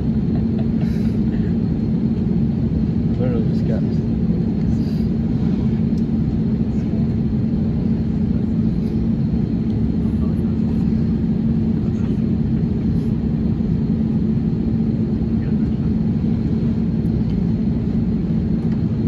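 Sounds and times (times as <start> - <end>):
aircraft cabin rumble: 0.0 - 19.0
jet engine hum: 0.0 - 19.0.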